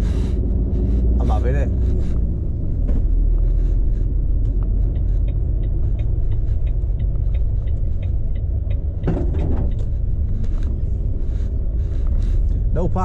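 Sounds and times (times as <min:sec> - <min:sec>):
lorry diesel engine rumble: 0:00.0 - 0:13.0
road noise inside cab: 0:00.0 - 0:13.0
turn indicator ticking: 0:00.0 - 0:13.0.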